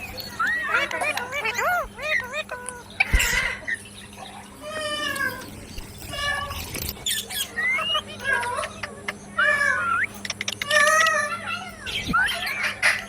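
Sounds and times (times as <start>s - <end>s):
parrot calling: 0.0s - 13.0s.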